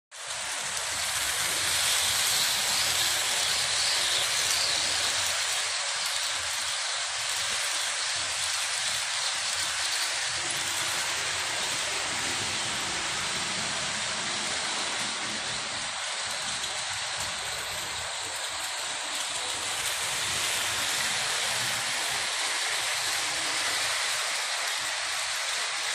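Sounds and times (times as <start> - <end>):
model train rolling on rails: 0.2 - 25.9.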